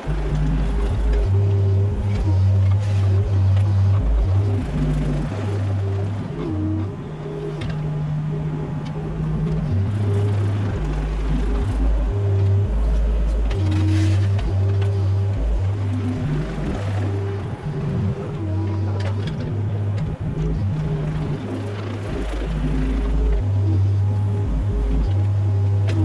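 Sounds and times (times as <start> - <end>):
excavator diesel engine drone: 0.0 - 26.0
hydraulic whine: 0.0 - 26.0.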